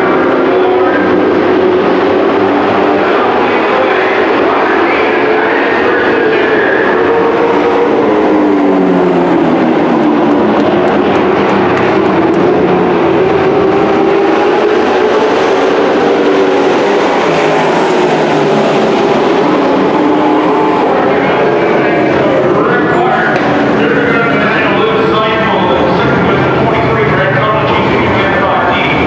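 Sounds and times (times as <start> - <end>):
race truck engines passing: 0.0 - 29.0.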